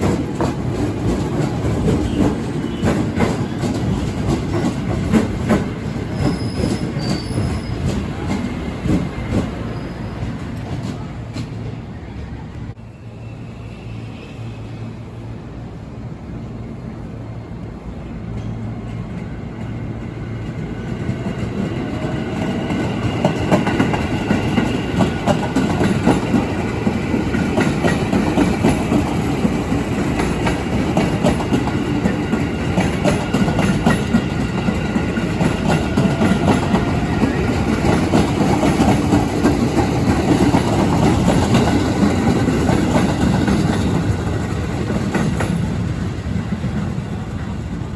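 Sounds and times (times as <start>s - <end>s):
train wheels clacking: 0.0s - 12.4s, 18.3s - 47.7s
train whine: 0.0s - 47.9s.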